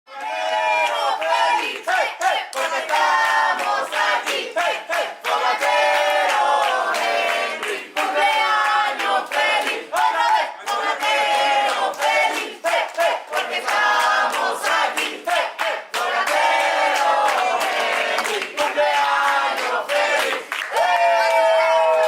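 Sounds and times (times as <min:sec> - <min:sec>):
group chanting and singing: 0:00.1 - 0:22.0
hand claps: 0:00.2 - 0:21.4.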